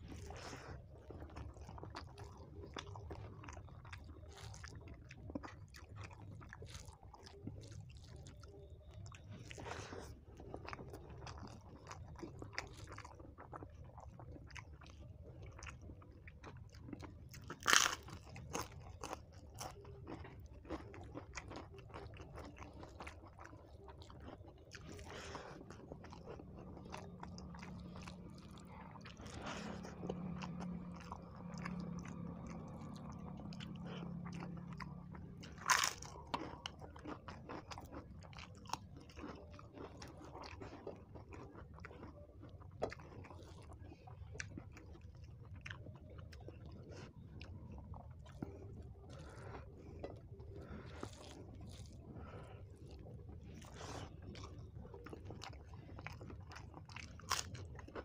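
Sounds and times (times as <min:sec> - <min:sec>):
chewing rice with crunches: 0:00.0 - 0:58.0.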